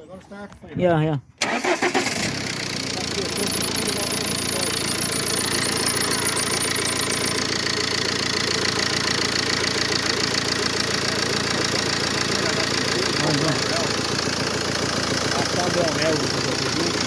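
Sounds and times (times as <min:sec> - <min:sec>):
diesel engine idling: 0:01.4 - 0:17.0.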